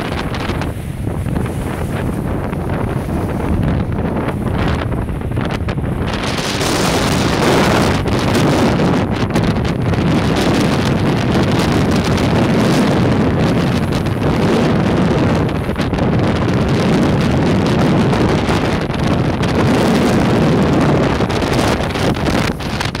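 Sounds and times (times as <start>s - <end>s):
choppy water rushing past hulls: 0.0s - 23.0s
strong wind on microphone: 0.0s - 23.0s.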